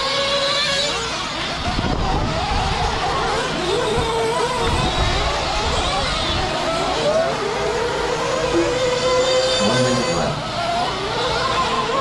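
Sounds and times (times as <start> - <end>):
rc truck engines whining: 0.0 - 12.0.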